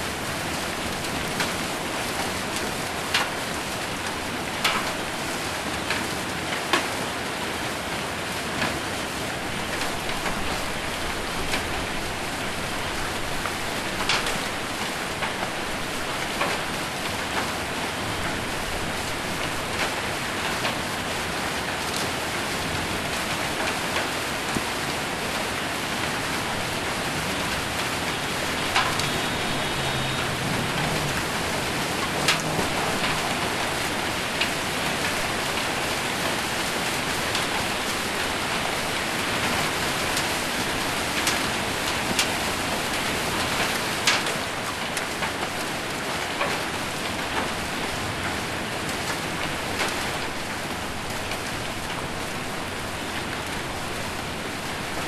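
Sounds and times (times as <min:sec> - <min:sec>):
rain and hail drumming on metal roof: 0:00.0 - 0:55.0.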